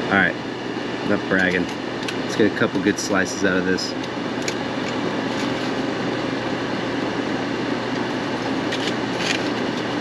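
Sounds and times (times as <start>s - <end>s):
mechanical whir and hiss: 0.0s - 10.0s.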